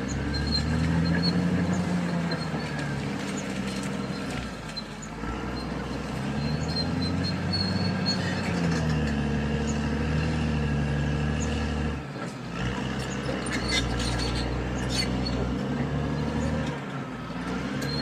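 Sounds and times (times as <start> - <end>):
bulldozer diesel engine working: 0.0 - 18.0.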